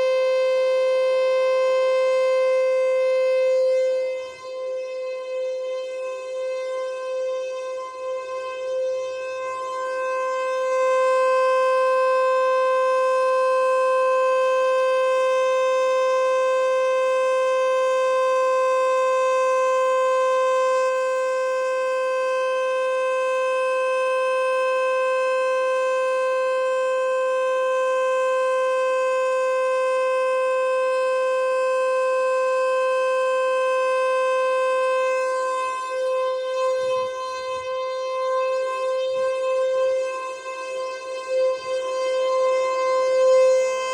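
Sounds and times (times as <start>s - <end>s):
warning siren steady tone: 0.0s - 43.9s.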